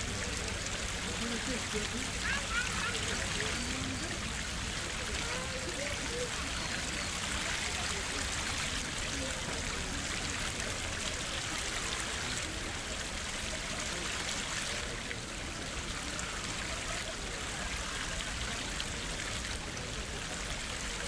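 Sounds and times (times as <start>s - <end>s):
water splashing into pond: 0.0s - 21.0s.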